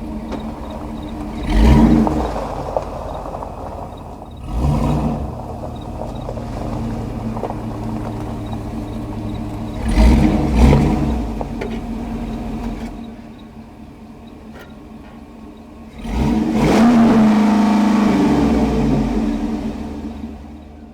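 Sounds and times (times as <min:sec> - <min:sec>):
car engine revving: 0:00.0 - 0:13.4, 0:15.8 - 0:20.9.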